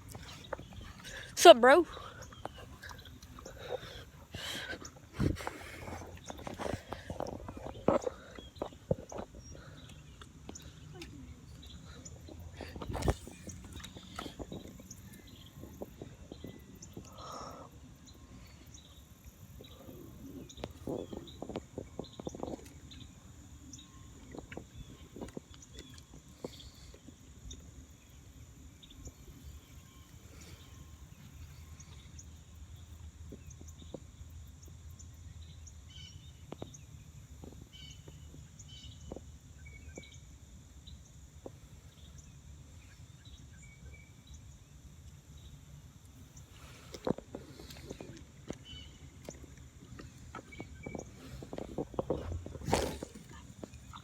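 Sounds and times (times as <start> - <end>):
birds chirping faintly: 0.0 - 54.0.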